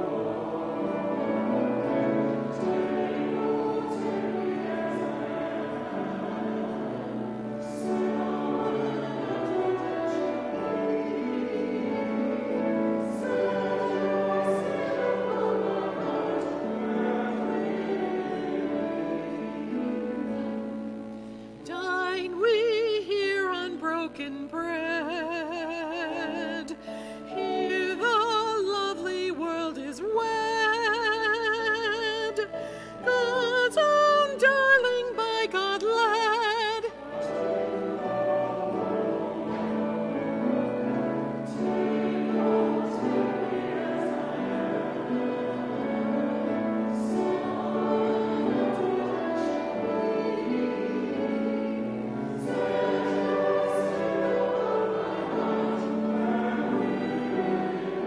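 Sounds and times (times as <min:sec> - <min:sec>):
keyboard accompaniment: 0:00.0 - 0:58.0
solo melody with wide vibrato: 0:00.0 - 0:58.0.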